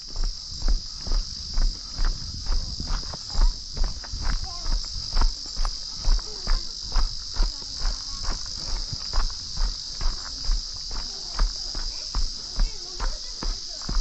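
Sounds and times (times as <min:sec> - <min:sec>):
footsteps on dirt trail: 0:00.0 - 0:14.0
high-pitched insect chorus: 0:00.0 - 0:14.0.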